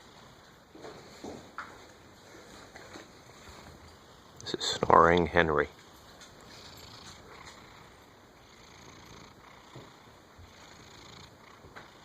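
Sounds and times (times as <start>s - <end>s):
cat snoring faintly: 0.0s - 1.4s, 2.2s - 12.0s.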